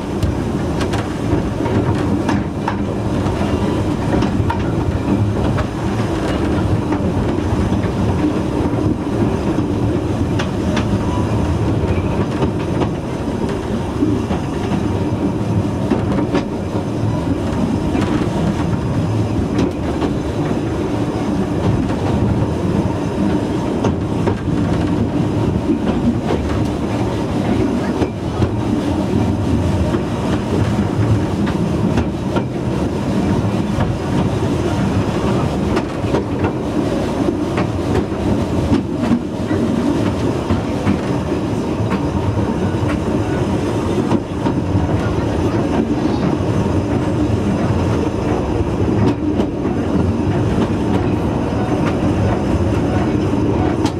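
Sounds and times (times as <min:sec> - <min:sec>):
railway coach wheels rumbling: 0:00.0 - 0:53.9.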